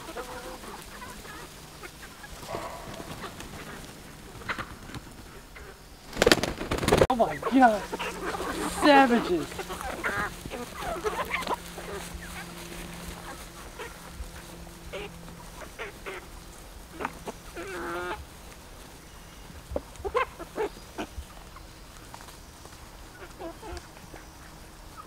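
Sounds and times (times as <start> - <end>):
chickens squawking and cheeping: 0.0 - 25.0.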